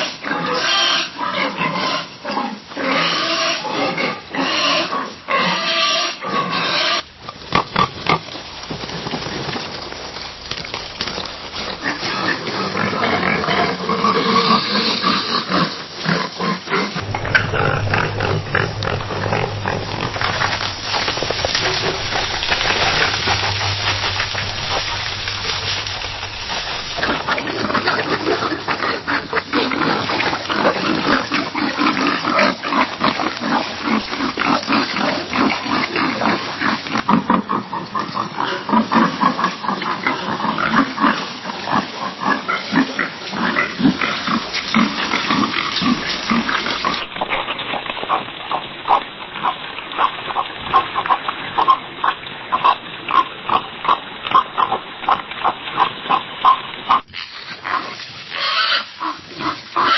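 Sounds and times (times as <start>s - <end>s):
pigs oinking and grunting: 0.0s - 59.9s.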